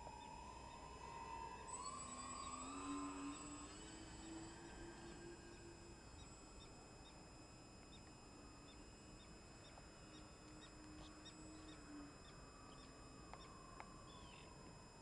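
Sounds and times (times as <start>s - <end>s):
model plane motors humming: 0.0s - 15.0s.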